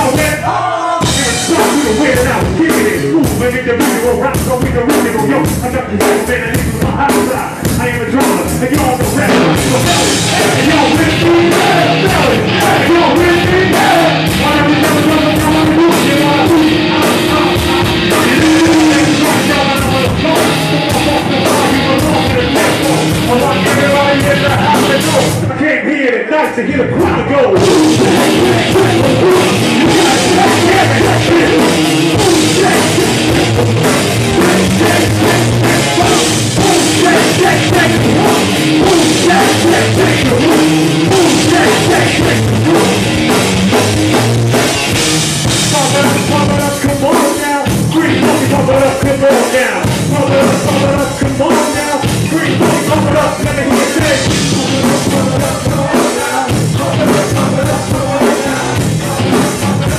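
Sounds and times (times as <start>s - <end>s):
drum kit beat: 0.0s - 25.6s, 27.0s - 59.9s
live rock band playing: 0.0s - 25.7s, 26.8s - 59.9s.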